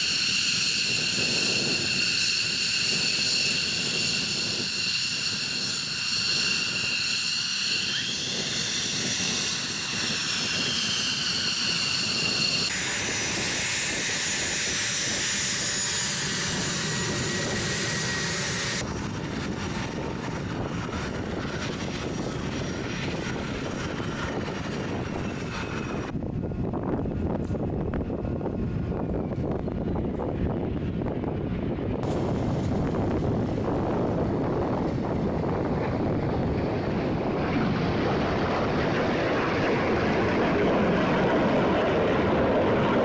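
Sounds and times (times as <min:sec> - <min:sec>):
jet engine high whine: 0:00.0 - 0:43.0
steady rushing jet noise: 0:00.0 - 0:43.0
turbofan whine while taxiing: 0:00.0 - 0:43.0.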